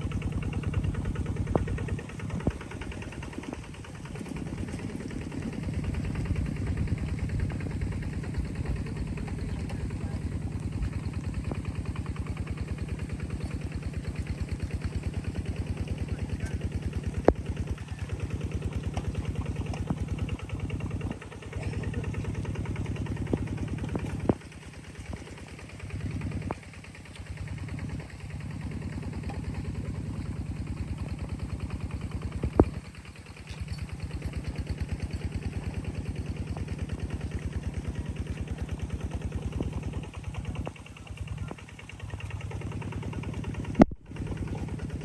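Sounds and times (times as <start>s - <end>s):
engine running with rapid beat: 0.0s - 45.0s.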